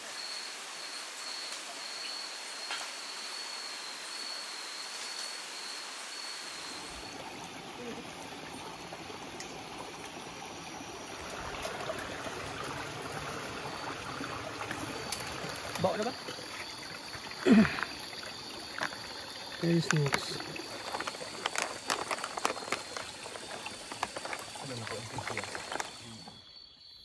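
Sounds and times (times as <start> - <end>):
high insect trill: 0.0 - 27.0
running water trickling: 0.2 - 26.6.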